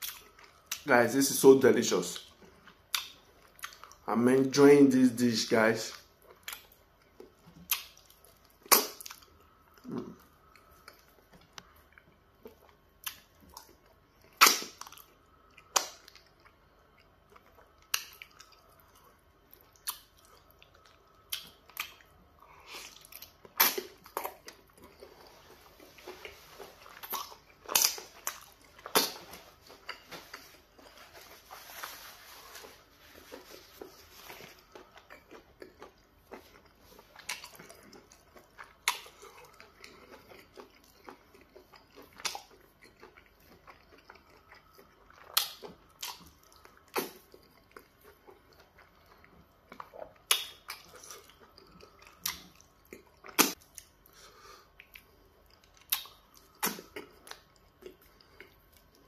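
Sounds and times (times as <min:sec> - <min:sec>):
chewing: 0:05.9 - 0:59.0.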